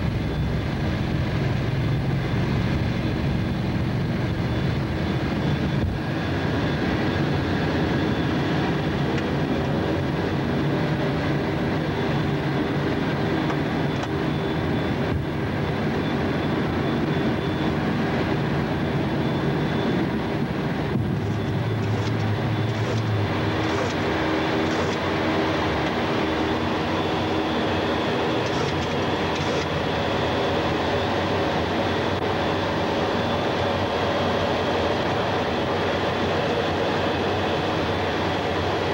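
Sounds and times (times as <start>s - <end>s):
jet aircraft engine drone: 0.0s - 38.9s.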